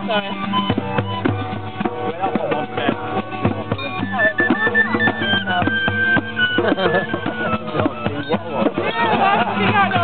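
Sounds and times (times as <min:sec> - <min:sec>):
cowbells ringing: 0:00.0 - 0:10.0
drums playing: 0:00.0 - 0:10.0
people's voices: 0:00.0 - 0:10.0.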